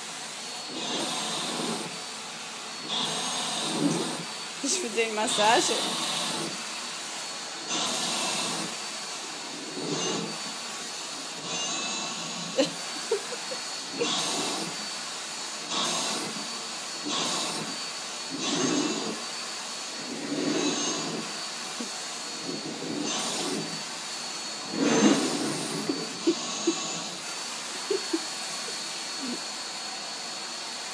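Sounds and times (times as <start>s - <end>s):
vacuum cleaner whining: 0.0s - 30.9s.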